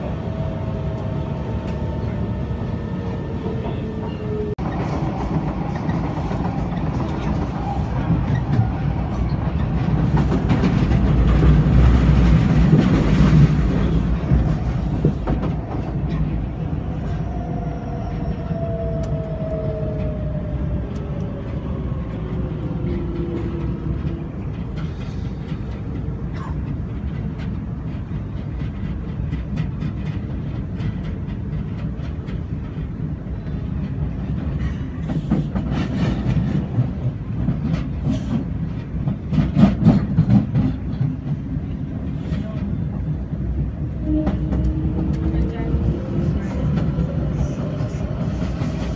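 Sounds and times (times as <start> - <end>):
train wheels rumbling on rails: 0.0 - 48.9
rhythmic train clacking: 0.9 - 48.9.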